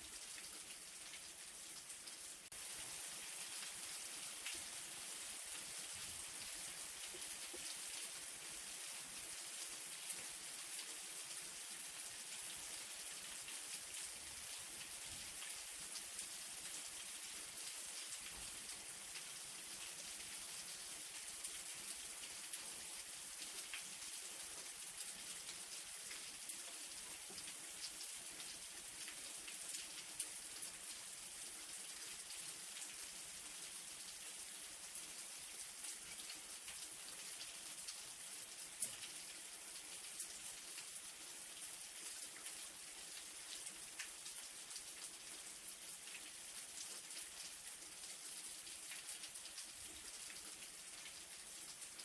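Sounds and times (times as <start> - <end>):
light rain hissing: 0.0 - 52.0.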